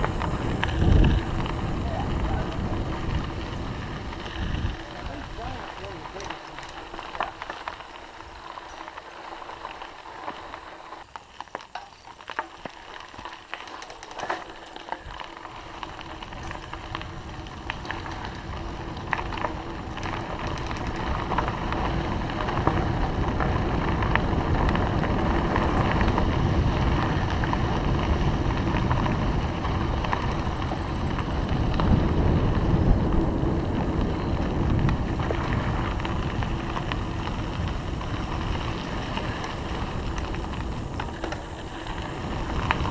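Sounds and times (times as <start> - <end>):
wind rushing over microphone: 0.0 - 7.4, 15.0 - 42.9
bicycle tyres rolling on road: 0.0 - 42.9.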